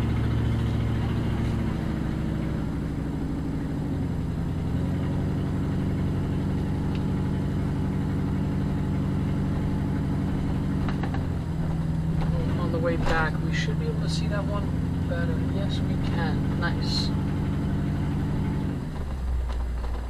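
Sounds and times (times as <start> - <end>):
car engine humming: 0.0 - 20.0
road noise: 0.0 - 20.0.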